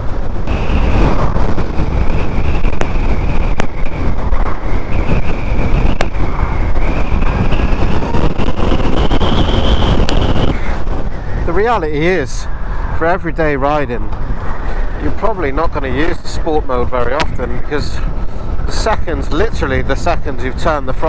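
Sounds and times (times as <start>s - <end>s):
wind and road rush: 0.0s - 21.0s.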